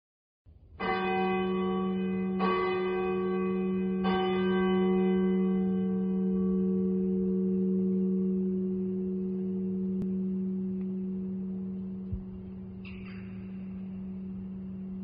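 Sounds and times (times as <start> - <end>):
church bell ringing: 0.8 - 15.0.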